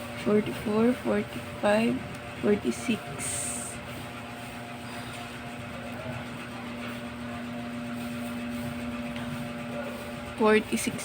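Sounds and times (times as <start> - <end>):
low steady machine hum: 0.0 - 11.0.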